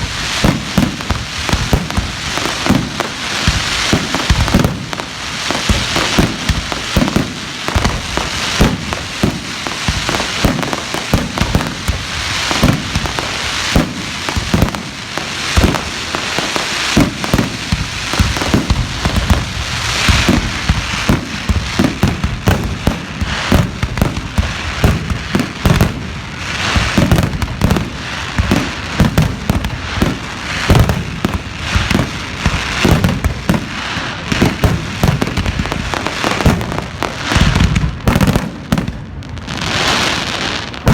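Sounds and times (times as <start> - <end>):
fireworks bangs and booms: 0.0 - 40.9
fireworks crackling: 0.0 - 40.9.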